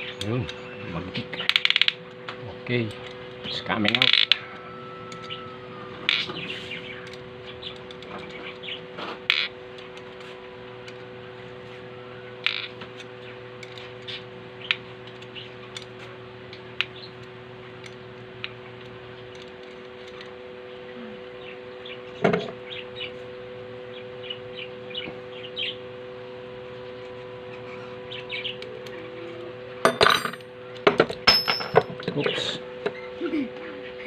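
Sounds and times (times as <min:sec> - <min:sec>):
steady two-tone hum: 0:00.0 - 0:34.0.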